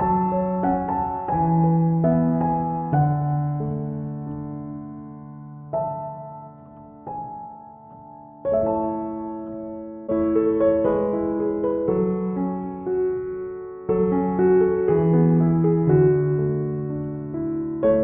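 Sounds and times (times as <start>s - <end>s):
slow electric piano chords: 0.0s - 18.0s.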